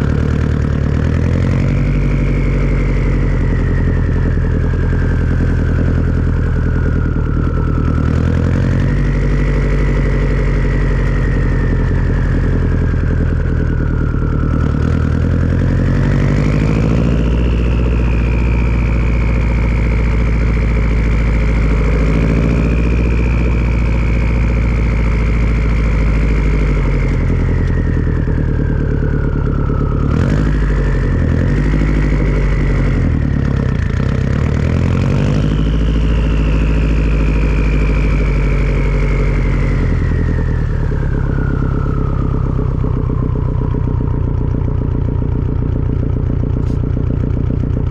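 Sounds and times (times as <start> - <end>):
turbo whistle: 0.0 - 46.0
car engine running at low revs: 0.0 - 47.9.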